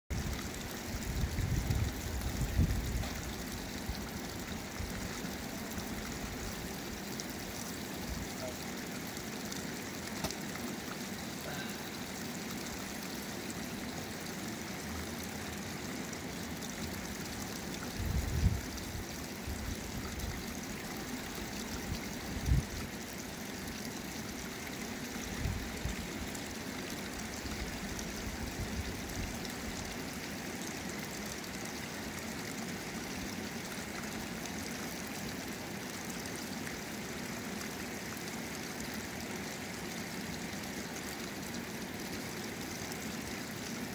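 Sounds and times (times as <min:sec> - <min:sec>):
stream running over rocks: 0:00.1 - 0:43.9
water pouring from a spout: 0:00.1 - 0:43.9.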